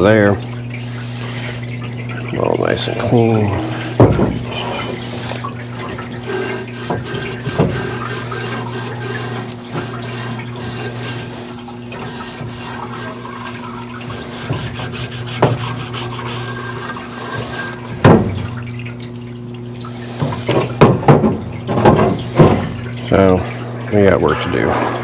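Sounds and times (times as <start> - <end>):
electric pump hum: 0.0 - 25.0
fluid pouring over parts: 0.0 - 25.0.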